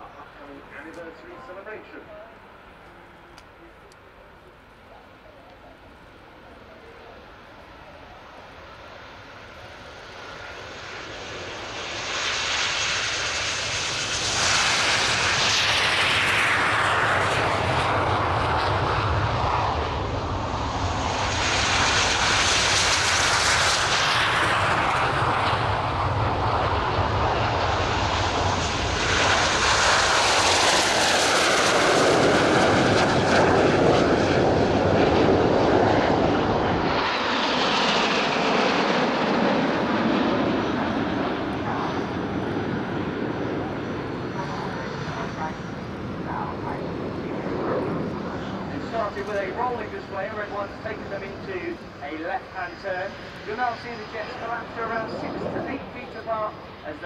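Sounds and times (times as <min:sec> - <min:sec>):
jets flying past: 0:08.5 - 0:57.0.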